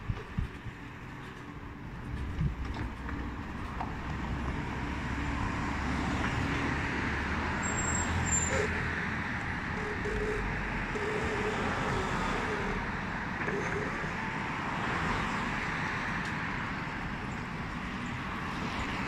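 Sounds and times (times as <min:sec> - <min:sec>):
low traffic rumble: 0:00.0 - 0:19.0
passing vehicles: 0:00.0 - 0:19.0.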